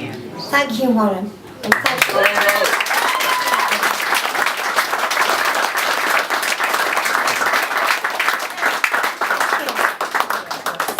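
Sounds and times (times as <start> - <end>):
audience applauding: 1.6 - 10.9.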